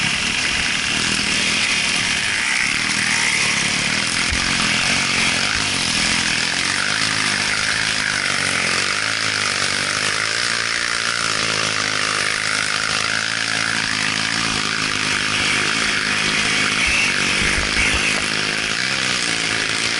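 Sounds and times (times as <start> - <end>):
dirt bike engine revving: 0.0 - 19.9
tyres on loose gravel: 0.0 - 19.9.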